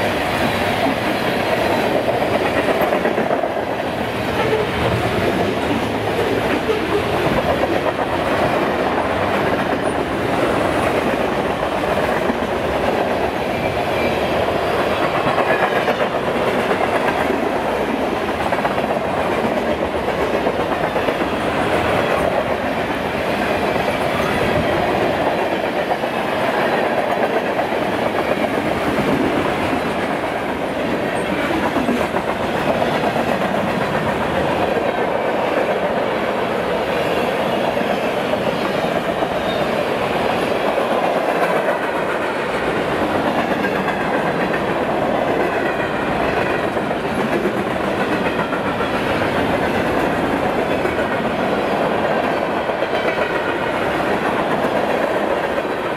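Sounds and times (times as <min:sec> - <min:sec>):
steel wheels rumbling on rail: 0:00.0 - 0:55.9.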